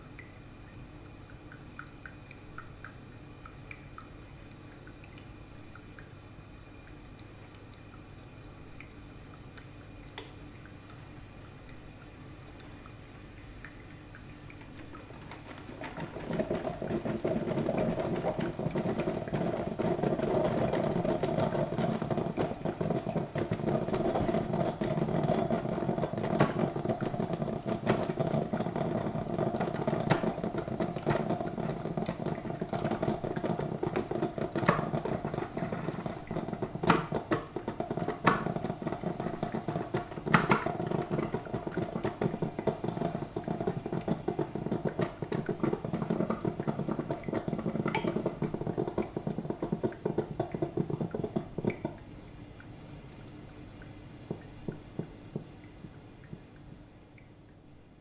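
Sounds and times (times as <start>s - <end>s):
coffee machine gurgling: 0.0s - 56.6s.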